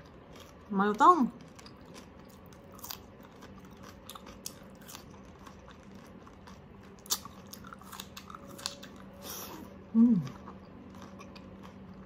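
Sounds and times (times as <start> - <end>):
chewing crispy pork skin: 0.0 - 12.0.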